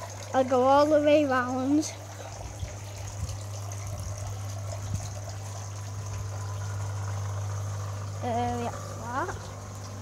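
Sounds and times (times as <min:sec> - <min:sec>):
pump humming: 0:00.0 - 0:10.0
water trickling: 0:00.0 - 0:10.0.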